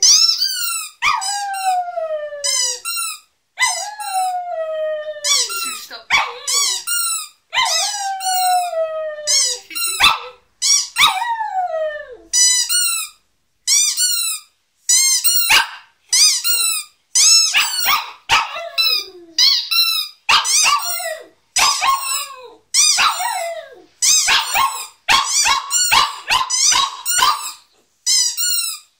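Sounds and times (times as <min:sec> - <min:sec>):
rubber squeaky toy squeaking: 0:00.0 - 0:04.4, 0:05.2 - 0:11.2, 0:12.3 - 0:28.9.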